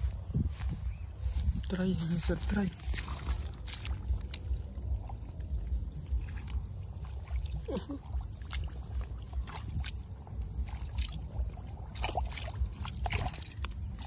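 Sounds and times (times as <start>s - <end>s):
low rumble: 0.0s - 14.0s
hand splashing in muddy water: 2.7s - 14.0s.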